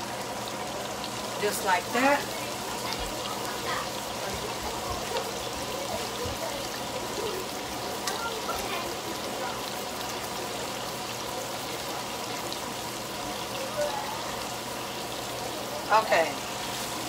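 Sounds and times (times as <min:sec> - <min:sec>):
patties sizzling in oil: 0:00.0 - 0:17.0.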